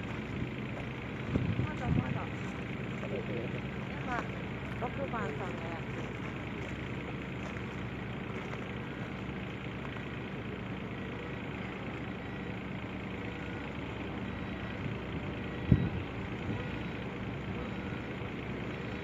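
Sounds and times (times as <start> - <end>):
backhoe engine running: 0.0 - 19.0.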